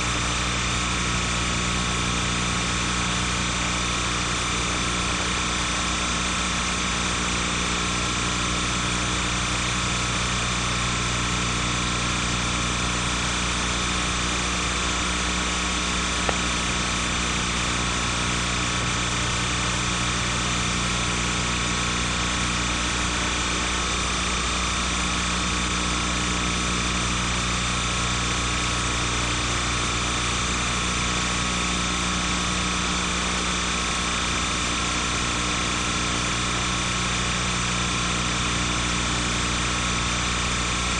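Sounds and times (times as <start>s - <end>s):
machine-like hum and hiss: 0.0s - 40.9s.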